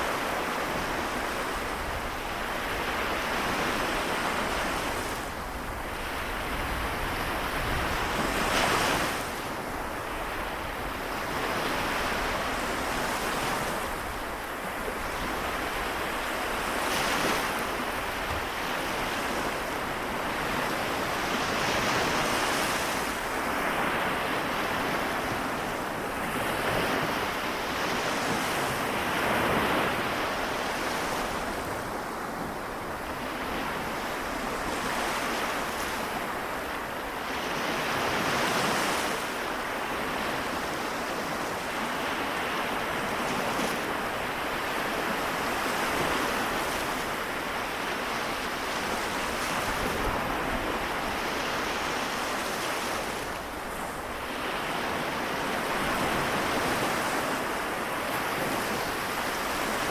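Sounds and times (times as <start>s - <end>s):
small waves washing onto shore: 0.0s - 59.9s
wind on microphone: 0.0s - 59.9s.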